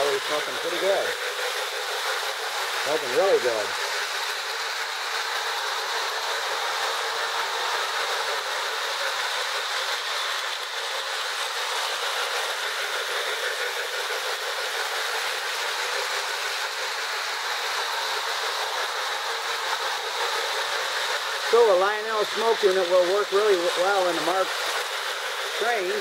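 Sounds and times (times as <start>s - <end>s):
toy train running on rails: 0.0s - 26.0s.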